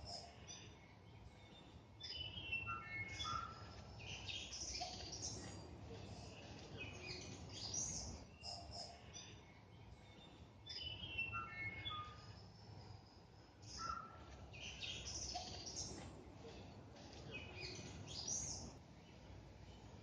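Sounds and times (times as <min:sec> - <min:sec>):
birds whistling and chirping: 0:00.0 - 0:18.8.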